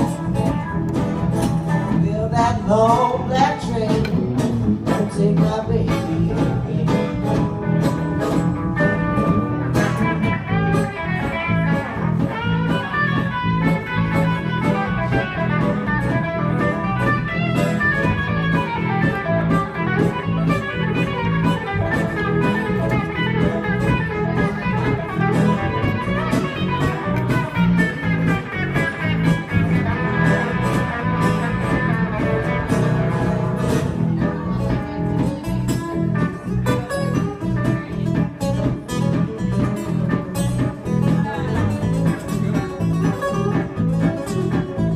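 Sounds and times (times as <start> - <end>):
live blues guitar instrumental: 0.0 - 44.9.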